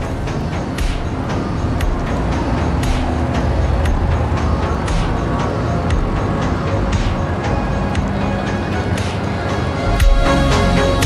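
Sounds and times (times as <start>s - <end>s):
dramatic film score: 0.0s - 11.0s
heavy low rumble: 0.0s - 11.0s
sharp percussive hits: 0.0s - 11.0s.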